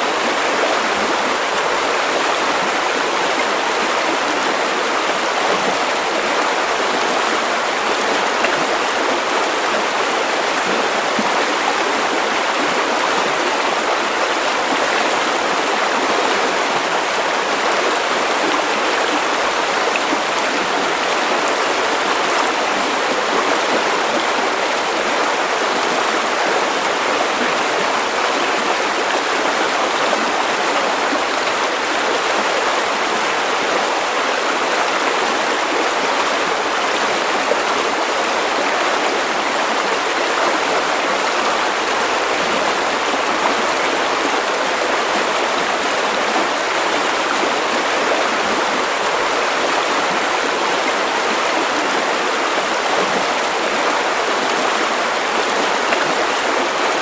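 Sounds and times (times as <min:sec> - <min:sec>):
river water over stones: 0:00.0 - 0:57.0.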